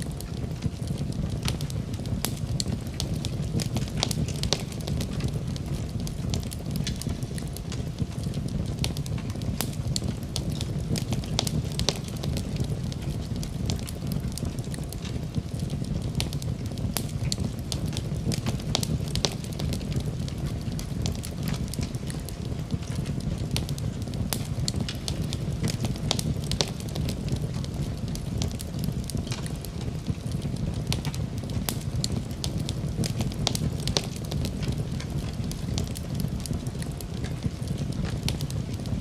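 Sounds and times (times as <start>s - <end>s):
wood fire roaring and crackling: 0.0s - 39.0s.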